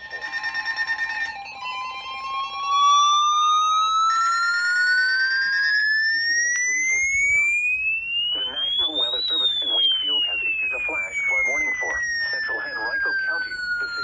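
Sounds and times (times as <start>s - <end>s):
pulsing electronic alert tones: 2.3s - 14.0s
rising tone: 2.7s - 14.0s.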